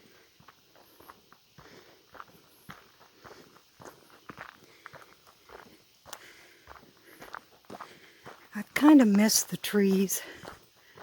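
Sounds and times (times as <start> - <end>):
faint footsteps on trail: 0.0 - 11.0.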